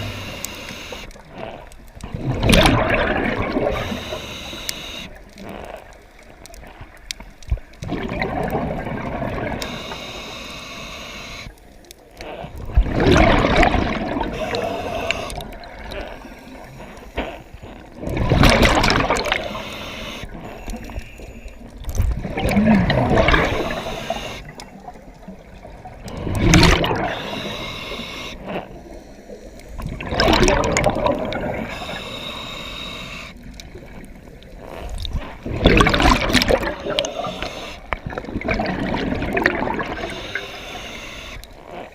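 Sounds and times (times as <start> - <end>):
quiet underwater noise: 0.0 - 41.9
scuba exhaust bubbles gurgling: 0.0 - 41.9.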